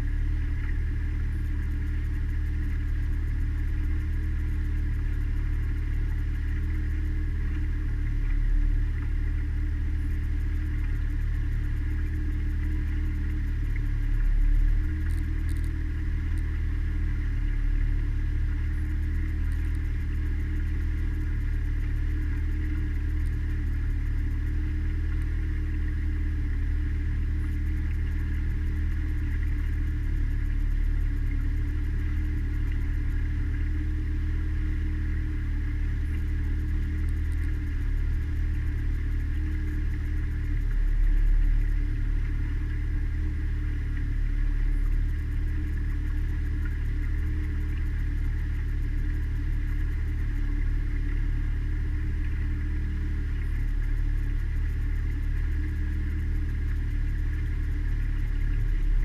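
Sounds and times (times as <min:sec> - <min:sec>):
outboard motor droning: 0:00.0 - 0:59.0.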